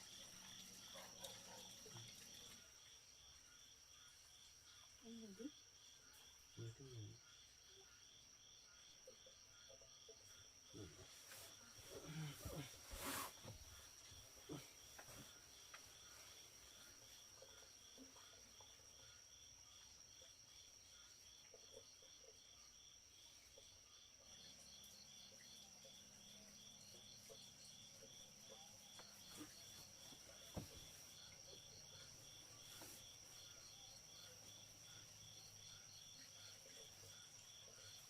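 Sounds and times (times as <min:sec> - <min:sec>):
faint insects chirping: 0:00.0 - 0:38.0.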